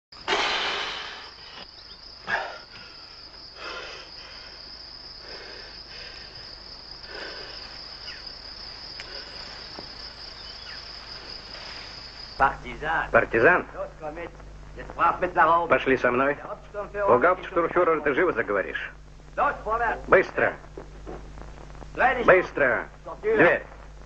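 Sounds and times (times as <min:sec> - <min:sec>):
crickets chirring: 0:00.2 - 0:24.0.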